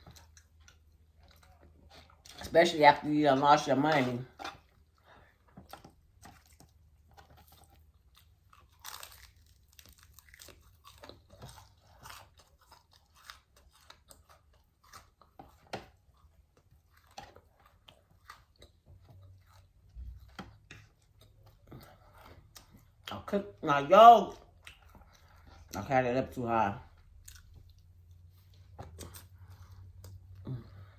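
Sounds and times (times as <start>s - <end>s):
person chewing food: 0.0s - 2.5s, 3.6s - 23.6s, 24.2s - 30.9s
food crunching: 0.0s - 30.9s.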